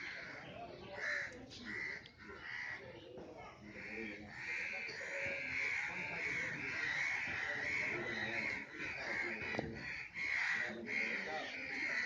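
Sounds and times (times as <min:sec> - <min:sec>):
crows cawing: 0:00.0 - 0:03.0, 0:03.6 - 0:12.0.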